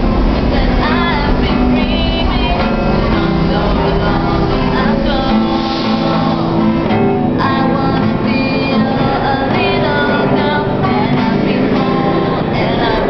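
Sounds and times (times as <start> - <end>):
acoustic guitar strummed: 0.0 - 13.0.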